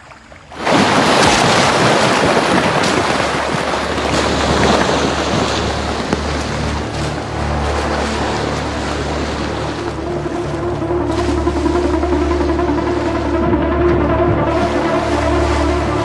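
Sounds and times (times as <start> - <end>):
heavy water splashing: 0.0 - 16.0.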